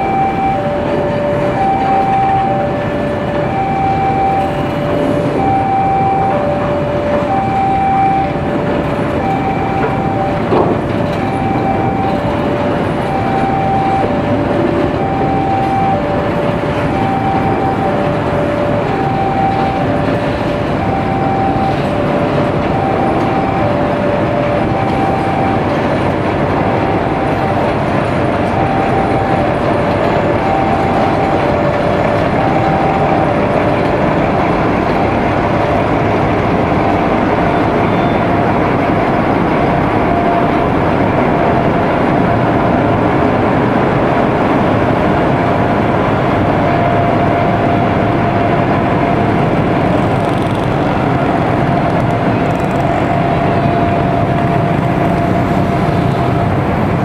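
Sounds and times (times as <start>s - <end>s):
level-crossing alarm two tones: 0.0s - 57.0s
train rumbling past: 0.0s - 57.0s.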